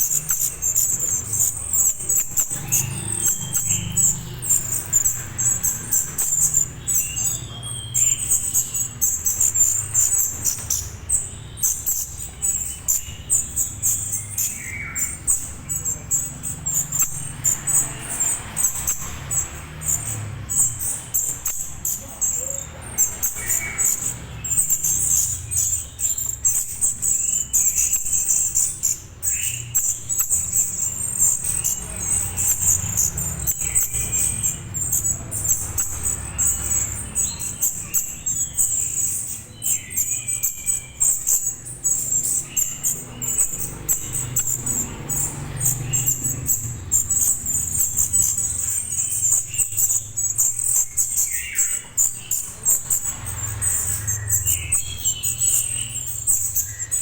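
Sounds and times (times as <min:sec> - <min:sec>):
bird chittering: 0:00.0 - 0:57.0.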